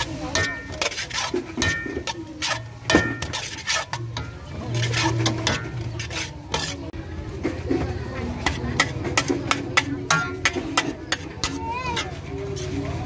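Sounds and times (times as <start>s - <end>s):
metal spatula scraping a wok: 0.0s - 13.0s.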